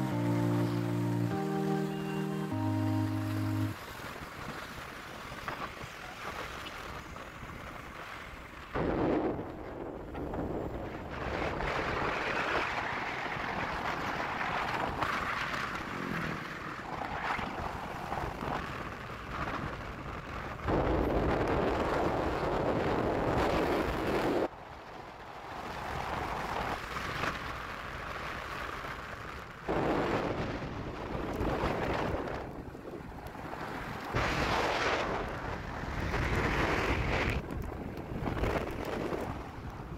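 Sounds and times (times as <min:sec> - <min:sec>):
motorcycle engine and road noise: 0:00.0 - 0:39.9
wind rushing over microphone: 0:03.7 - 0:39.9.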